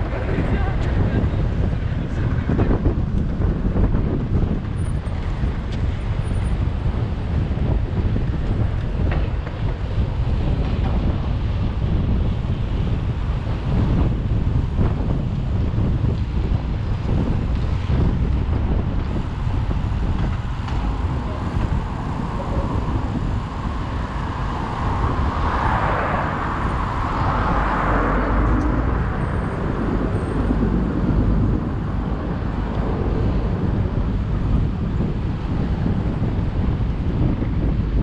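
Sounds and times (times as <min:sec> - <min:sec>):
road traffic: 0:00.0 - 0:38.0
wind noise on microphone: 0:00.0 - 0:38.0.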